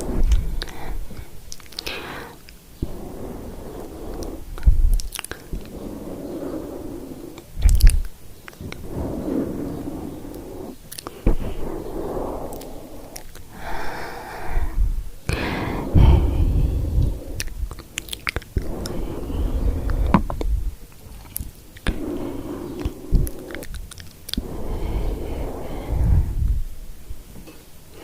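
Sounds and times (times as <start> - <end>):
rubbing on microphone: 0.0 - 14.0, 14.6 - 27.3.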